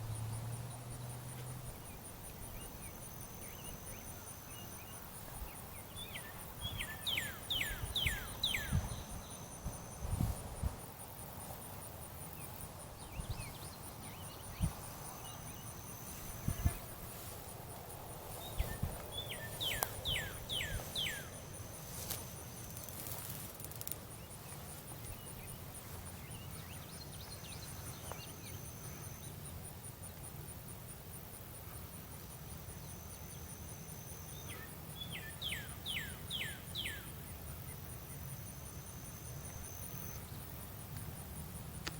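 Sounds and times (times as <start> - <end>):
faint insect buzz: 0.0 - 41.9
insects chirping: 0.0 - 41.9.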